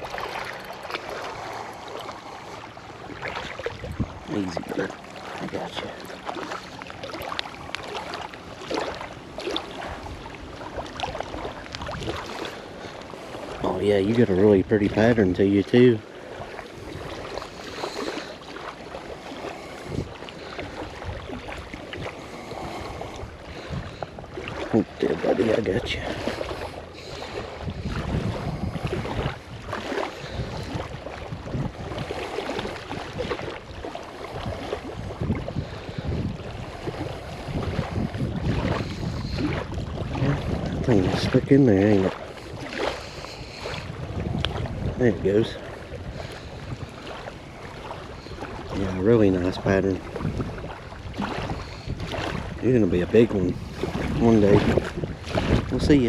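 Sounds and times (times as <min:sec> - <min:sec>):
water splashing and sloshing: 0:00.0 - 0:56.0
wind buffeting microphone: 0:00.0 - 0:56.0.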